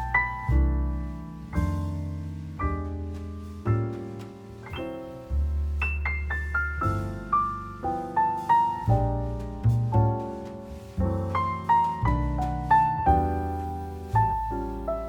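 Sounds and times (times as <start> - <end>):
piano low bass notes: 0.0 - 15.0
piano single notes: 0.0 - 15.0.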